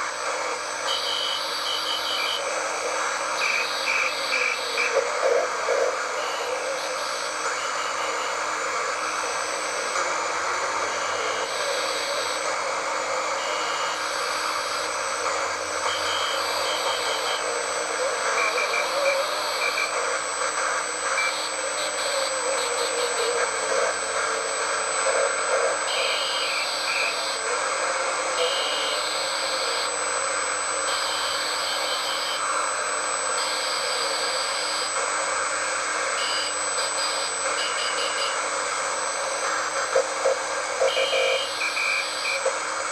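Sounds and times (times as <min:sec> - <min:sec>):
radio static hiss: 0:00.0 - 0:42.9.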